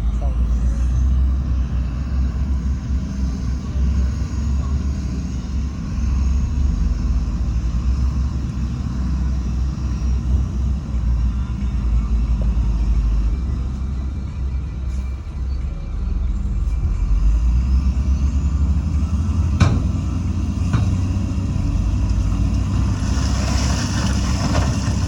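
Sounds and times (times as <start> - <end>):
heavy diesel machinery rumbling: 0.0 - 25.0.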